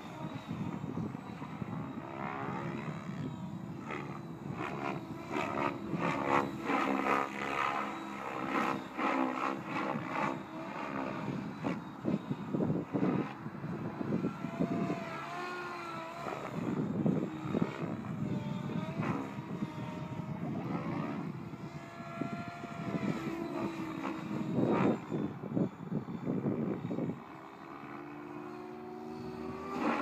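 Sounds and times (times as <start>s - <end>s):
model helicopter motor whine: 0.0s - 30.0s
rotor blades rushing: 0.0s - 30.0s.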